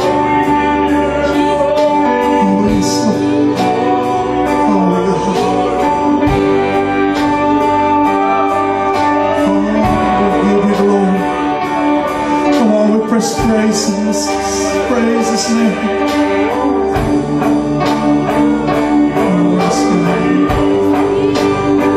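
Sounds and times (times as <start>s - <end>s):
worship band playing slow song: 0.0s - 21.9s.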